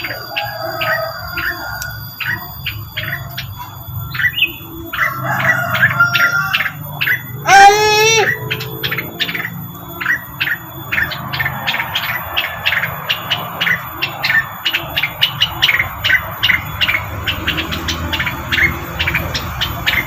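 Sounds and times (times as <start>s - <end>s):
bird chirps: 0.0s - 20.0s.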